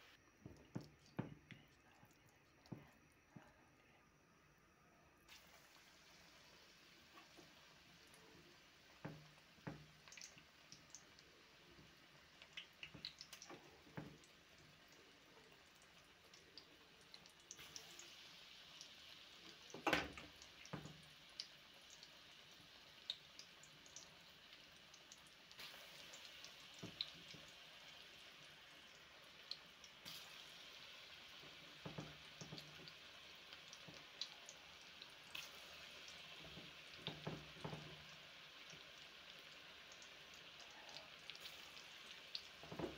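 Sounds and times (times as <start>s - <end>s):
food deep-frying in oil: 5.1s - 42.9s.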